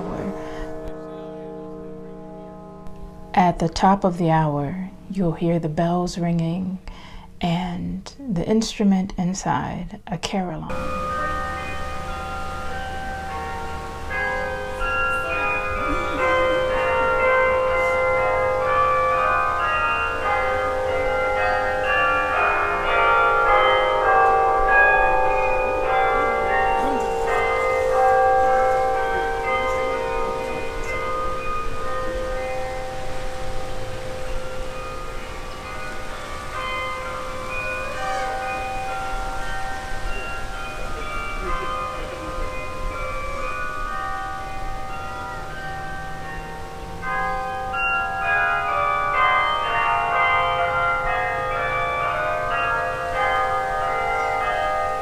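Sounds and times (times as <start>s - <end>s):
carillon bells ringing: 0.0s - 7.8s, 10.7s - 55.0s.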